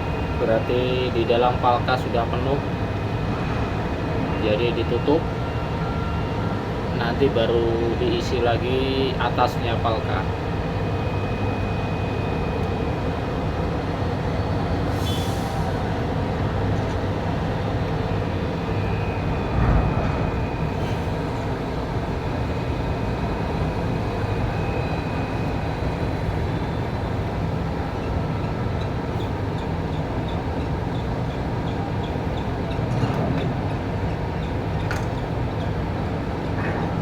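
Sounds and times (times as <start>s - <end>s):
heavy machinery drone: 0.0s - 37.0s.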